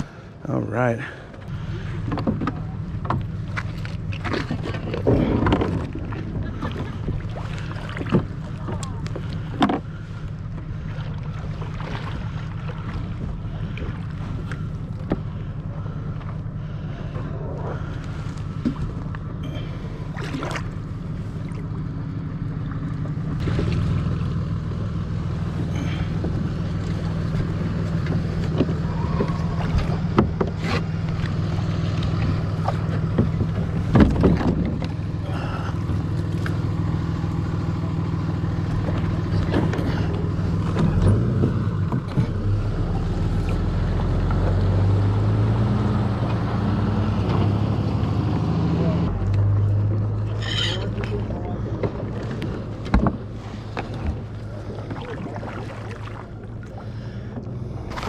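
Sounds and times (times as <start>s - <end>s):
engine idling with low hum: 0.0s - 58.0s.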